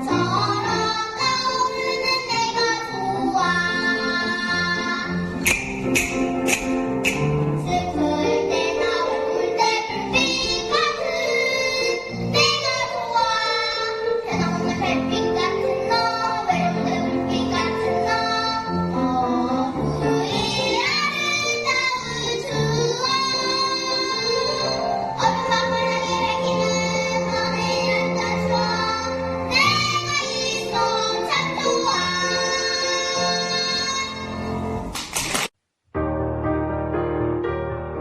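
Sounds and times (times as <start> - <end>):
child singing: 0.0 - 5.3, 7.6 - 34.5
instrumental accompaniment: 0.8 - 35.3.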